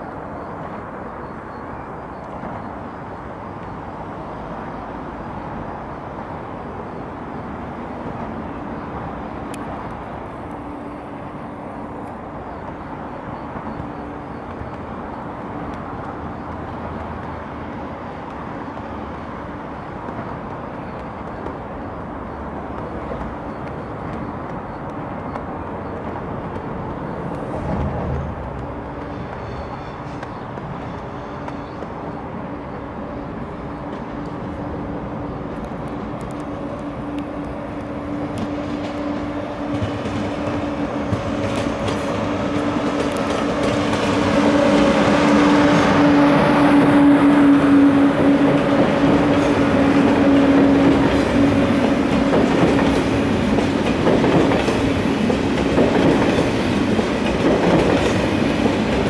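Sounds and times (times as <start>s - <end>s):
train rumbling by: 0.0s - 59.0s.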